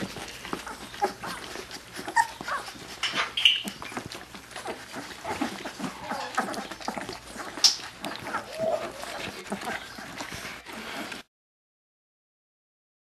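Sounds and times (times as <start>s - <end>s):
puppies squeaking and whimpering: 0.0s - 11.2s
puppies suckling clicks: 0.0s - 11.3s.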